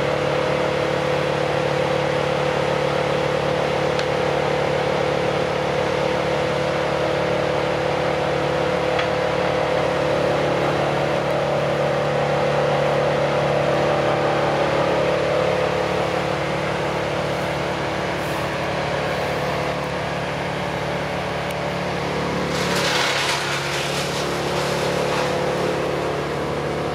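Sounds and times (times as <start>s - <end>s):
diesel engines running: 0.0s - 26.9s.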